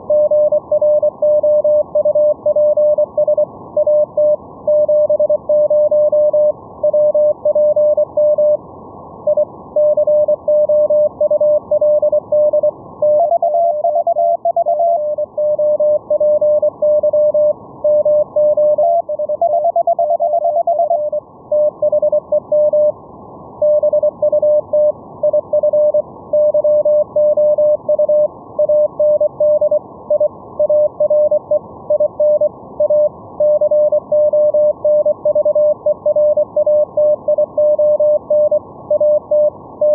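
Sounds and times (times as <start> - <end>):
morse code tones: 0.1 - 8.6, 9.3 - 22.9, 23.6 - 39.9.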